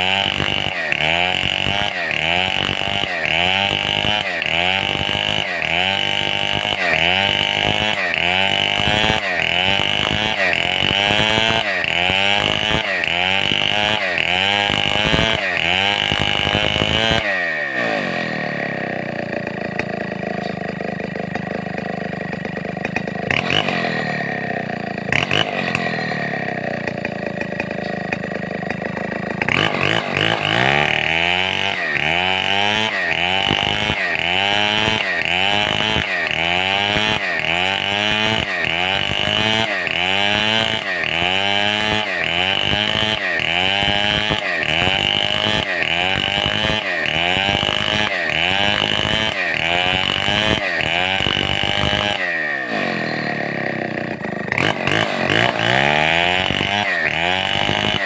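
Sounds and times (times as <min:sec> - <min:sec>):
chainsaw engine surging: 0:00.0 - 0:58.0.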